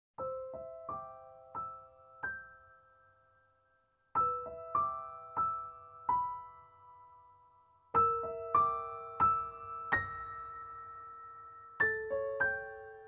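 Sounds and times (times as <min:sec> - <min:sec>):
sparse piano melody: 0:00.2 - 0:13.0.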